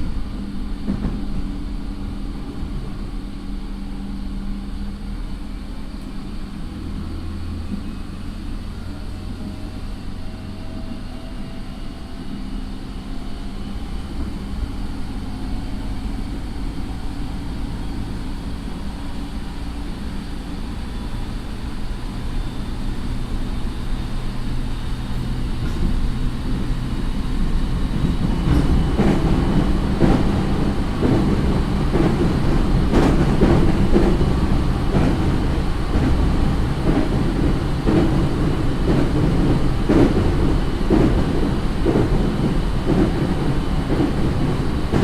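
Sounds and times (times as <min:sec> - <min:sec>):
train interior hum: 0:00.0 - 0:45.0
wheel and rail running noise: 0:00.0 - 0:45.0.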